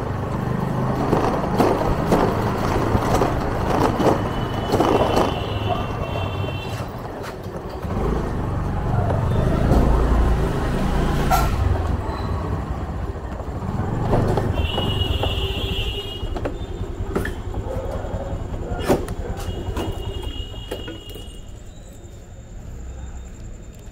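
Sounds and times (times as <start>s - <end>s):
scooter engine and road rumble: 0.0s - 23.9s.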